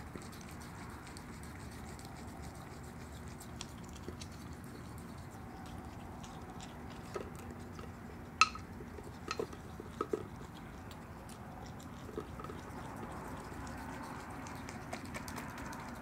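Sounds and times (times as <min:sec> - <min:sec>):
animal crunching food: 0:00.0 - 0:16.0.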